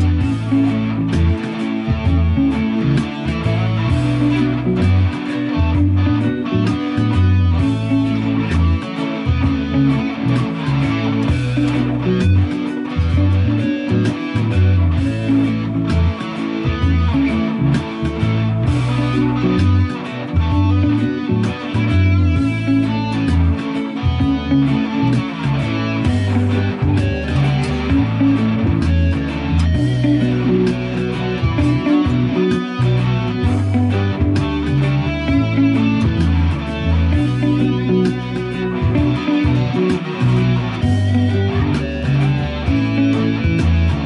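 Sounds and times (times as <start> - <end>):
bass line: 0.0 - 44.0
electric guitar: 0.0 - 44.0
reggae backing track: 0.0 - 44.0.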